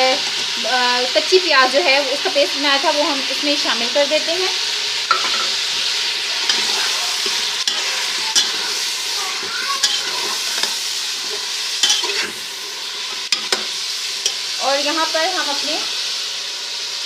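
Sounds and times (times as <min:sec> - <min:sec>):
beef sizzling in a pot: 0:00.0 - 0:17.0.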